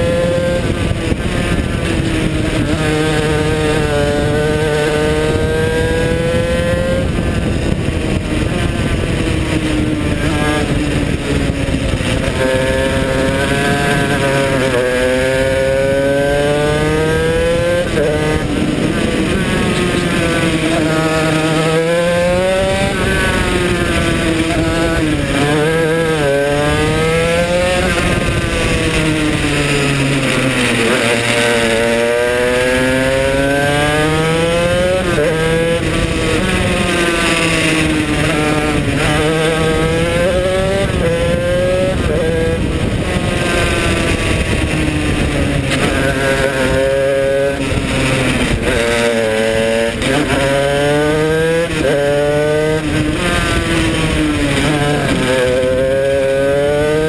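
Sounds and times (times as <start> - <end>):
kart engine at racing speed: 0.0 - 57.0.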